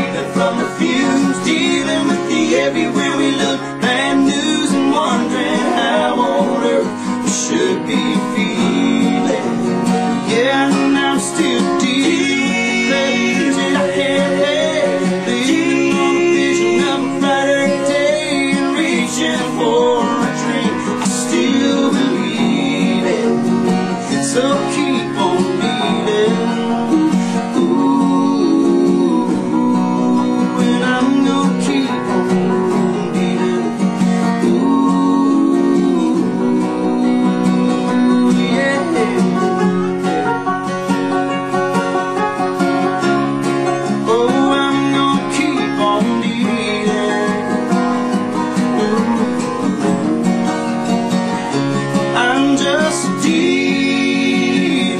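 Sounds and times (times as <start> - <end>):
acoustic guitars: 0.0 - 54.9
country band playing live: 0.0 - 54.9.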